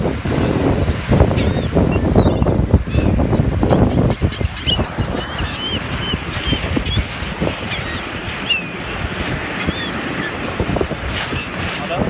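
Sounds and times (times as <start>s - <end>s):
seagulls calling: 0.1s - 11.9s.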